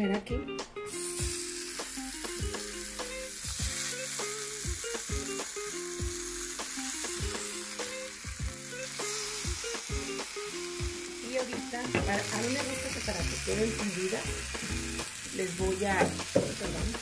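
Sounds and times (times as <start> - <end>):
background music with a beat: 0.0 - 17.0
food sizzling in a frying pan: 0.8 - 17.0.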